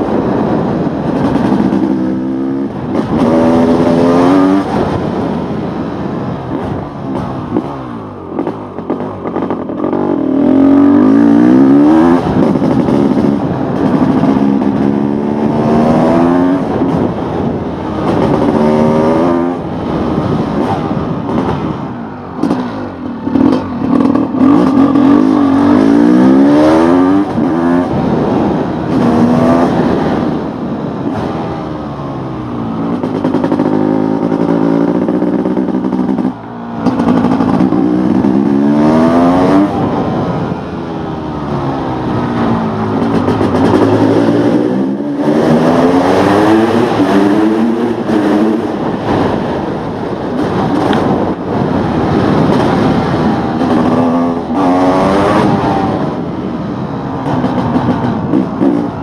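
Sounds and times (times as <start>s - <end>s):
two-stroke engine accelerating: 0.0s - 59.0s.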